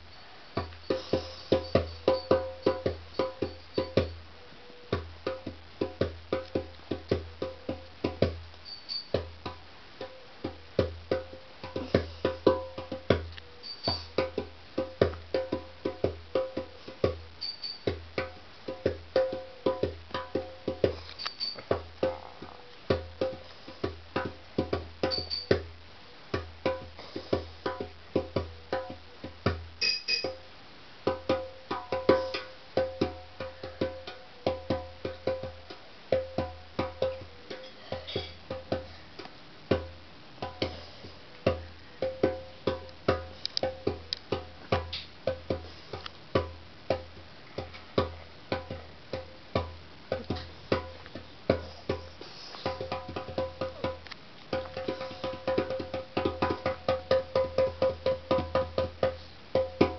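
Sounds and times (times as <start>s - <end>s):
djembe drumming: 0.6s - 4.2s, 4.8s - 8.5s, 9.1s - 21.0s, 21.6s - 39.0s, 39.7s - 59.9s.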